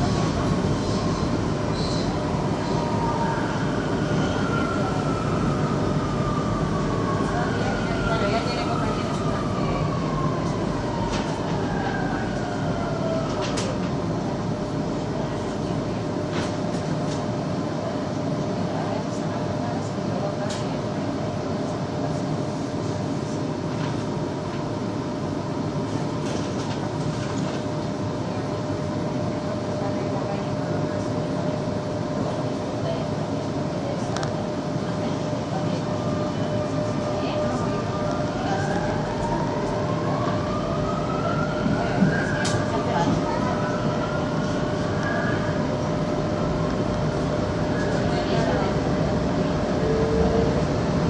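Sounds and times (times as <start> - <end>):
metro train rumble: 0.0 - 51.0.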